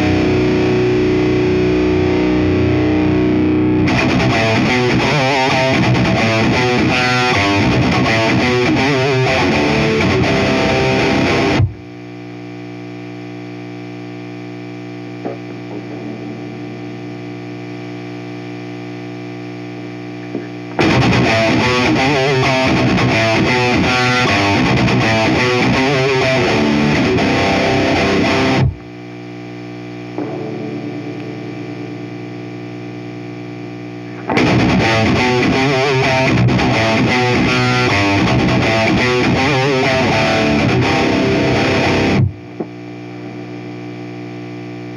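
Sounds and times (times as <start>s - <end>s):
distorted electric guitar riffing: 0.0s - 44.9s.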